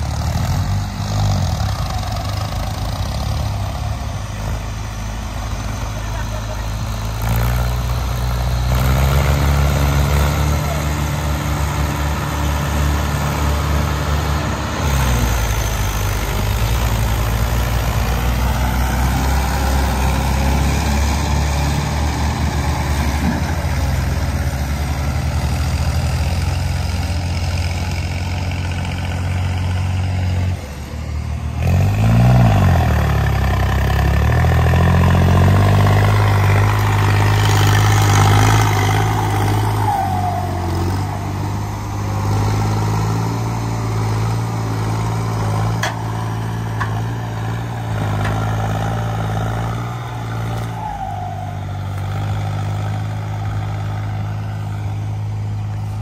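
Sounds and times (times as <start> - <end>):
diesel tractor engines running: 0.0 - 56.0.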